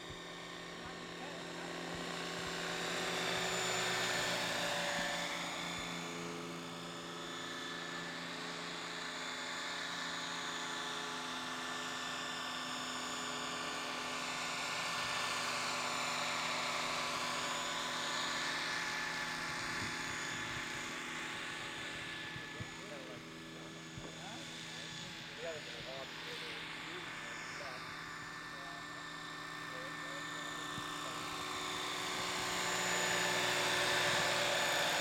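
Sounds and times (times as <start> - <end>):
model helicopter rotor whine: 0.0 - 35.0.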